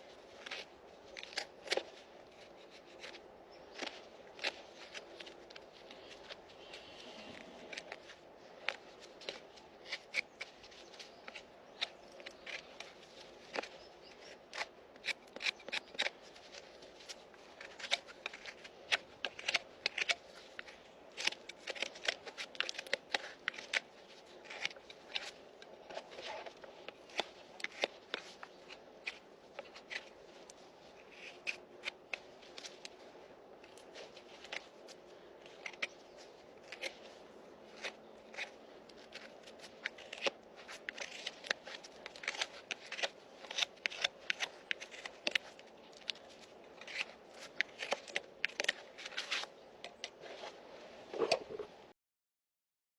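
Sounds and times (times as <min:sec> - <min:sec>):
hand tools scraping hoof: 0:00.4 - 0:51.6.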